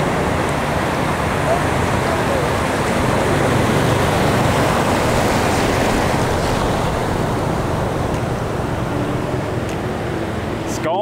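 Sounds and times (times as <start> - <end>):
surf washing over sand: 0.0 - 11.0.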